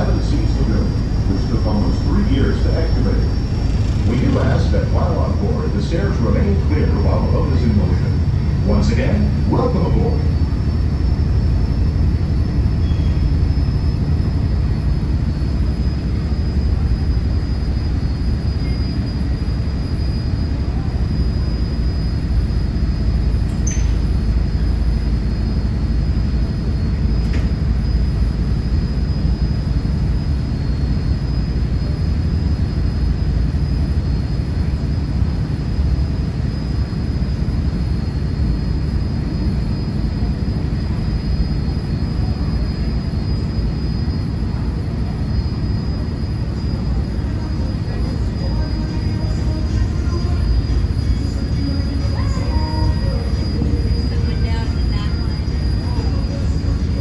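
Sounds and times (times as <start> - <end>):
boat diesel engines running: 0.0 - 57.0
thin high whine: 0.0 - 57.0.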